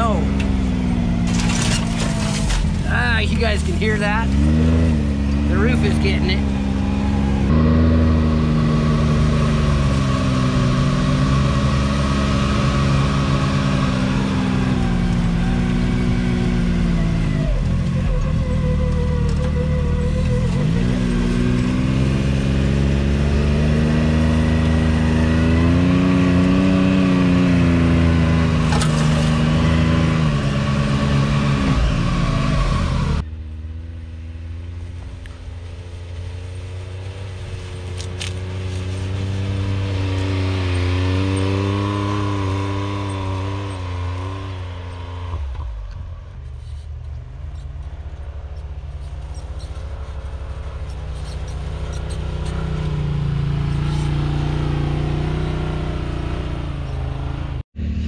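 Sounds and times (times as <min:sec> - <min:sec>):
engine revving close by: 0:00.0 - 0:35.0, 0:36.3 - 0:46.5, 0:47.5 - 0:58.0
distant engines revving: 0:00.0 - 0:58.0.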